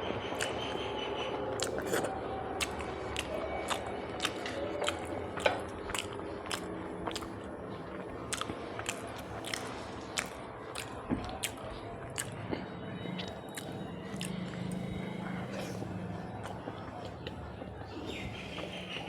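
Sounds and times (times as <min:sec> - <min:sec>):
person chewing food: 0:00.4 - 0:19.0.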